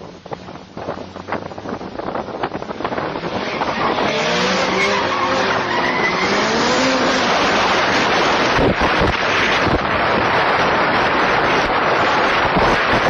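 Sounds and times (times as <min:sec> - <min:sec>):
wind and road noise: 0:00.0 - 0:13.0
wind buffeting microphone: 0:00.0 - 0:13.0
car engine revving: 0:00.8 - 0:13.0.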